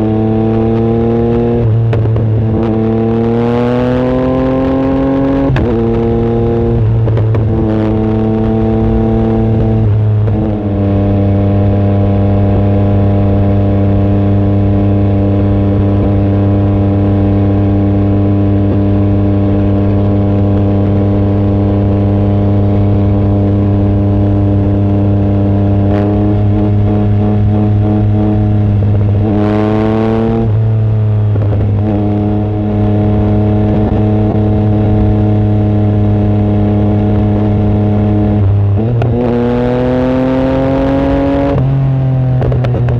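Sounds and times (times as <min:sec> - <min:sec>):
loud motorcycle engine: 0:00.0 - 0:42.9.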